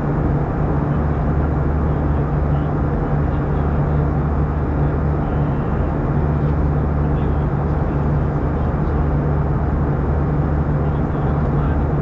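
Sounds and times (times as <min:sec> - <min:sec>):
constant low hum: 0:00.0 - 0:12.0
jet engines droning: 0:00.0 - 0:12.0.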